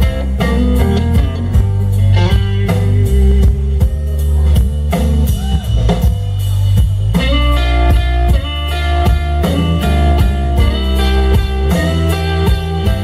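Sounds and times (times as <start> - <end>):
electric guitar solo: 0.0 - 4.6, 7.2 - 13.0
drum kit: 0.0 - 13.0
electric bass: 0.0 - 13.0.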